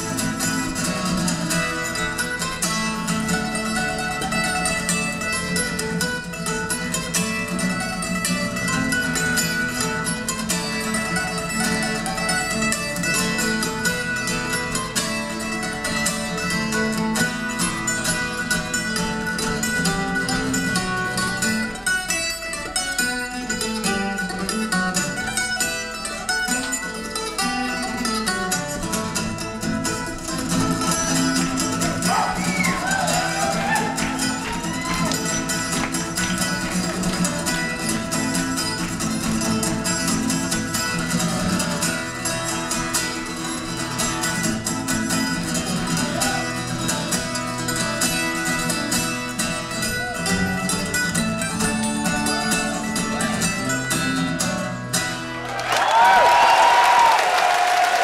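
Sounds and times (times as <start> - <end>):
acoustic folk music on plucked strings: 0.0 - 56.0.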